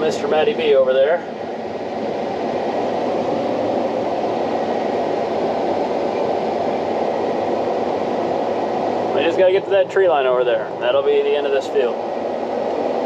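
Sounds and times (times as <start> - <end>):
air conditioning fan: 0.0 - 13.0
combine harvester drone in cab: 0.0 - 13.0.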